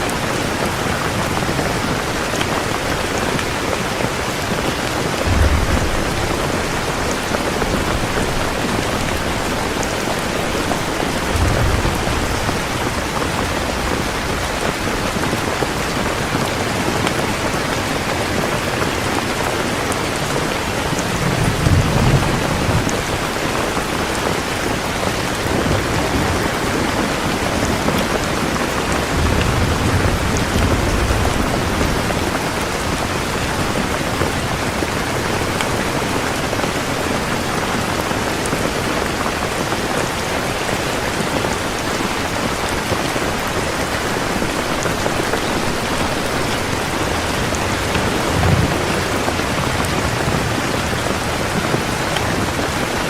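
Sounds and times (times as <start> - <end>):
heavy rain falling: 0.0 - 53.0
thunder rumbling: 0.1 - 19.5, 20.1 - 39.6, 40.8 - 53.0.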